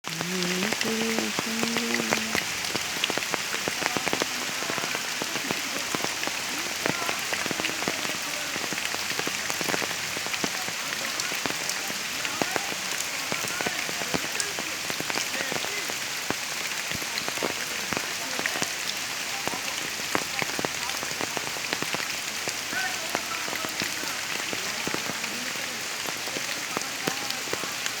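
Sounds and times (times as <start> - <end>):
rain falling on pond: 0.0 - 28.0.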